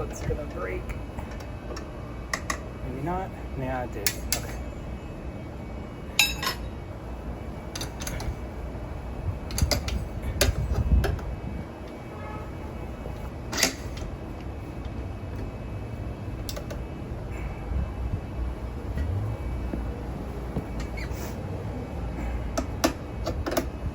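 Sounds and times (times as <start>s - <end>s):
steady low rumble: 0.0s - 23.9s.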